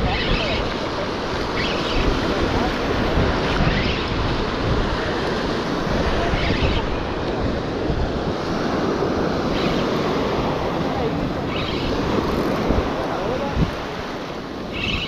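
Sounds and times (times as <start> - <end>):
surf washing up a beach: 0.0 - 15.0
wind blowing on microphone: 0.0 - 15.0.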